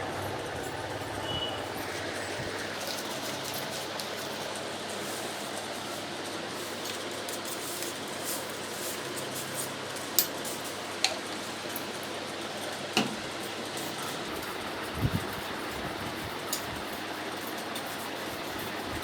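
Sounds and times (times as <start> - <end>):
washing machine running: 0.0 - 19.0.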